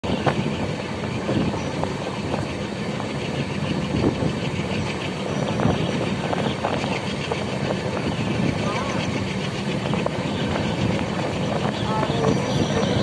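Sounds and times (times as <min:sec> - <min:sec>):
train coaches rumbling and rattling: 0:00.0 - 0:13.0
wheels clicking over rails: 0:00.0 - 0:13.0.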